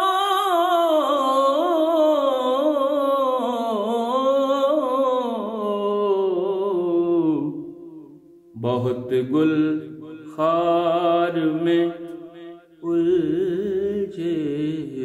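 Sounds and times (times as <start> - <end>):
man singing a held wordless line: 0.0 - 15.0.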